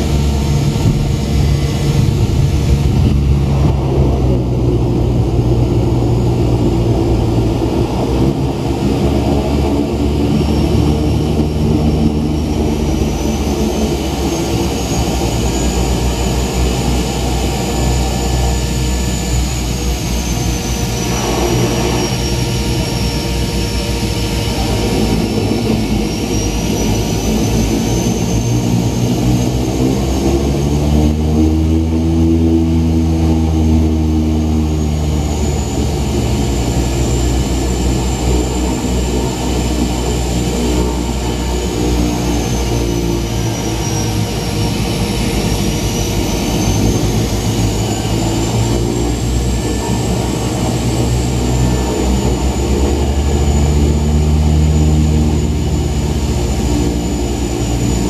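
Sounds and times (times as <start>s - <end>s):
propeller engine drone: 0.0s - 58.0s.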